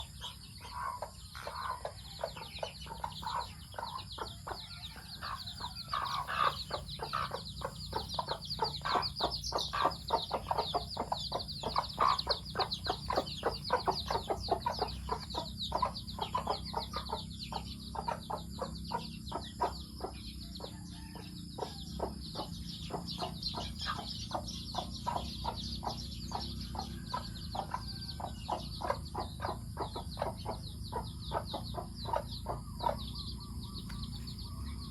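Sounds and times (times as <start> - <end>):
chickens clucking: 0.0 - 34.9
steady low hum: 0.0 - 34.9.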